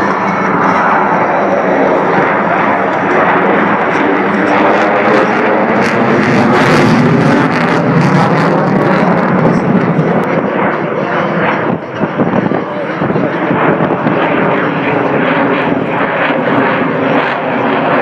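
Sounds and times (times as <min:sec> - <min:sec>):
aircraft engine overhead: 0:00.0 - 0:18.0.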